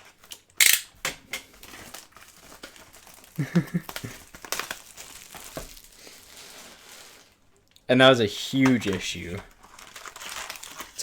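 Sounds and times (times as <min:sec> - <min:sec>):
card wrappers crinkling: 0:01.5 - 0:07.7, 0:08.3 - 0:11.0.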